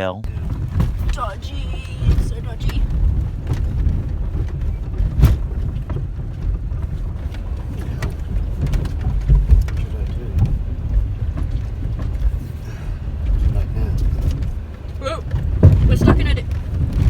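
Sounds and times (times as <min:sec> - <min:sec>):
car engine and tyres rumbling: 0:00.0 - 0:17.0
car knocking and rattling: 0:00.1 - 0:17.0.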